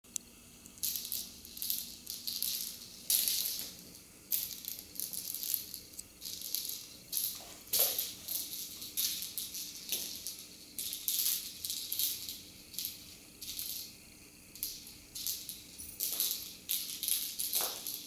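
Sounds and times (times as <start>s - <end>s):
rattle ball rolling on hardwood floor: 0.8s - 18.0s.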